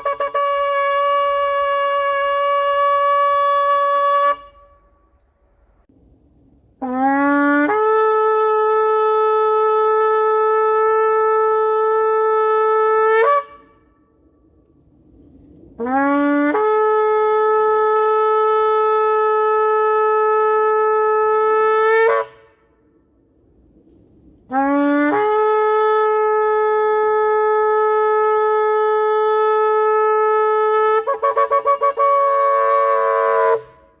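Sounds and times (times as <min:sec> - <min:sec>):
shofar blasts: 0:00.0 - 0:05.2, 0:06.8 - 0:14.0, 0:15.8 - 0:22.9, 0:24.5 - 0:34.0.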